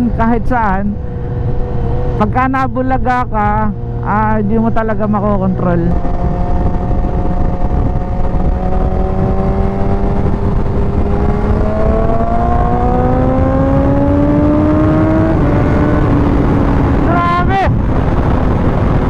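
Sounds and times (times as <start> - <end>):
motorcycle engine at road speed: 0.0 - 19.0
wind rush on microphone: 0.0 - 19.0.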